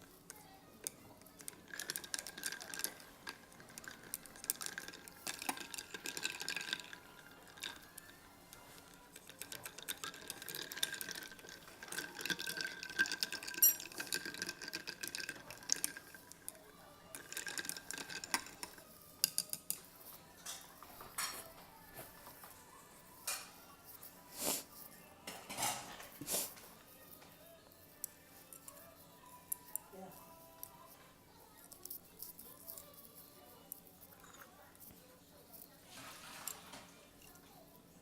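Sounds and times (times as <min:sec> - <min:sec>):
utensils scraping a bowl: 0:00.0 - 0:16.5, 0:17.1 - 0:37.8.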